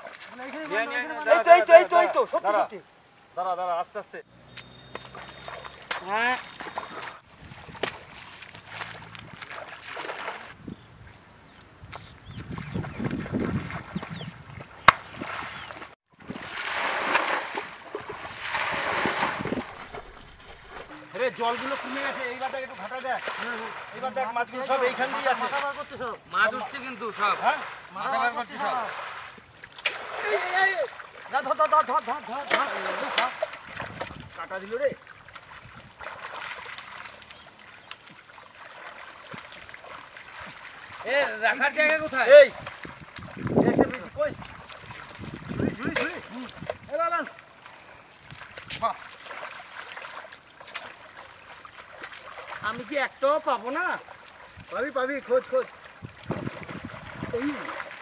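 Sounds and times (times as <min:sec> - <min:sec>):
water sloshing and splashing: 0:00.0 - 0:02.4, 0:04.3 - 0:58.0.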